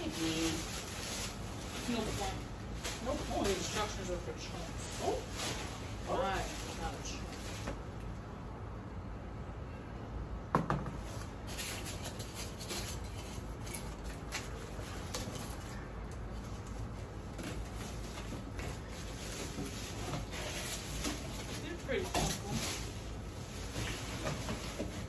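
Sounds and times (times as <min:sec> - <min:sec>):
cardboard and plastic wrapping rustling: 0:00.0 - 0:08.1, 0:10.9 - 0:25.0.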